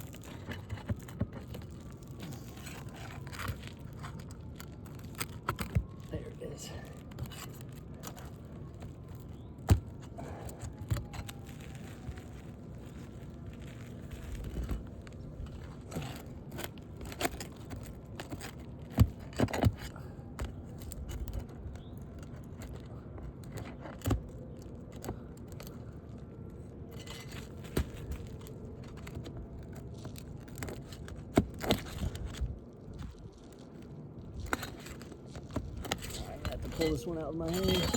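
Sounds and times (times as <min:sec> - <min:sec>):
scraping under roof shingles: 0:00.0 - 0:37.9.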